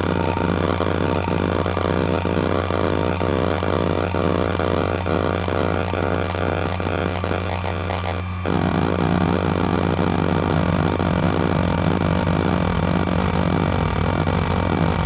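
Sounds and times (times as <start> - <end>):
hum of spinning platters: 0.0 - 15.0.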